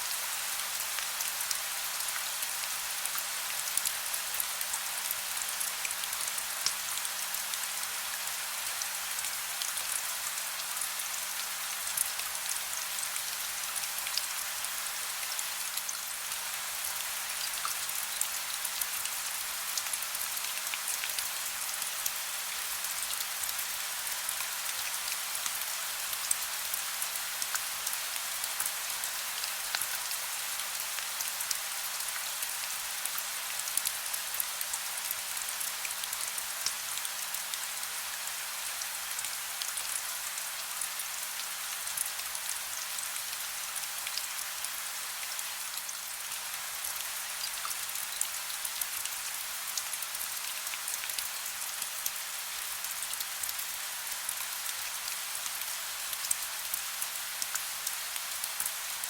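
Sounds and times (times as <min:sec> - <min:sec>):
soft steady rain: 0:00.0 - 0:59.0.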